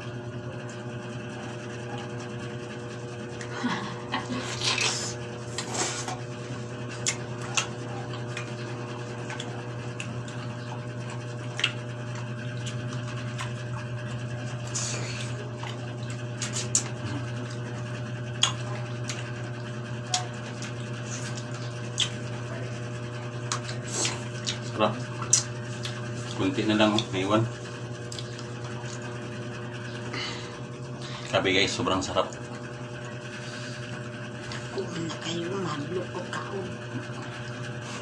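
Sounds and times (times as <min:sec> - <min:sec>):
steady low hum: 0:00.0 - 0:38.0
people chewing: 0:03.3 - 0:31.4, 0:32.2 - 0:35.0.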